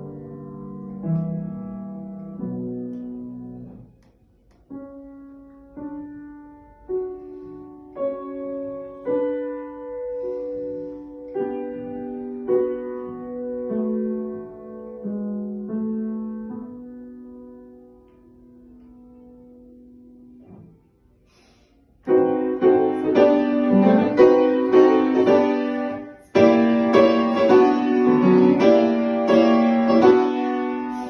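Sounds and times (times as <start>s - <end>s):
slow lyrical piano piece: 0.0s - 31.0s.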